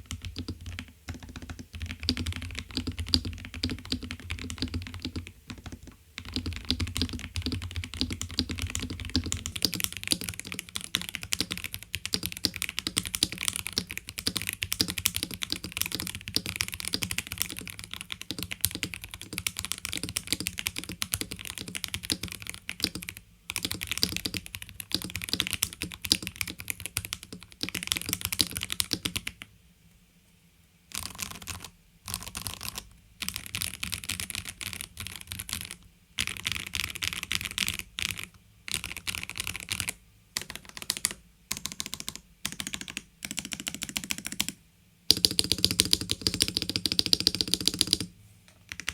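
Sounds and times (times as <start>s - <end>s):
mechanical keyboard typing: 0.0s - 29.4s, 30.9s - 48.1s, 48.7s - 48.9s.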